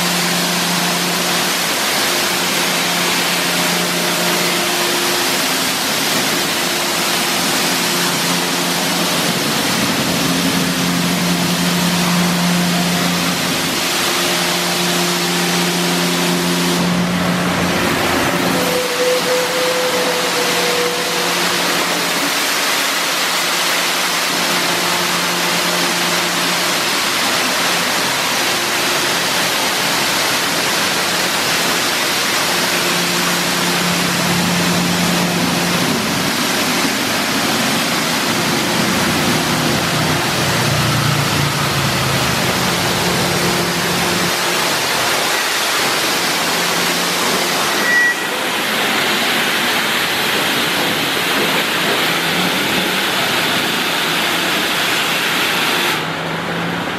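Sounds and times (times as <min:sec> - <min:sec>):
low machine hum: 0:00.0 - 0:53.8
high-pressure water spray hissing: 0:00.0 - 0:56.9.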